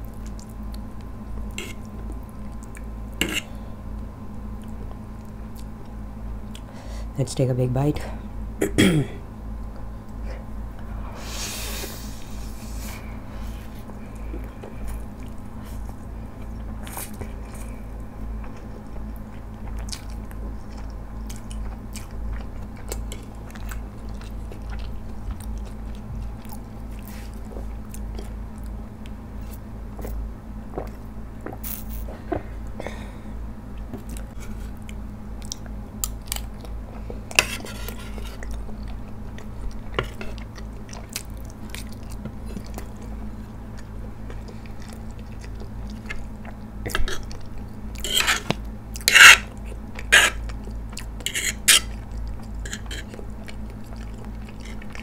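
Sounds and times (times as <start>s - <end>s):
person chewing noodles wetly: 0.0s - 3.3s, 13.4s - 33.0s, 33.8s - 55.0s
steady low hum: 0.0s - 55.0s.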